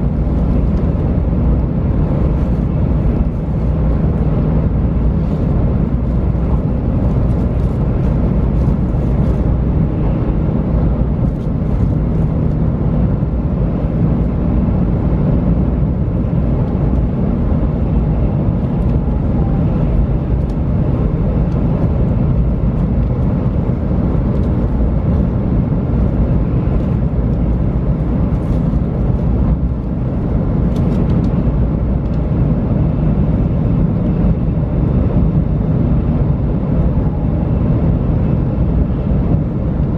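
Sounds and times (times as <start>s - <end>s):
faint steady hum of tones: 0.0s - 39.9s.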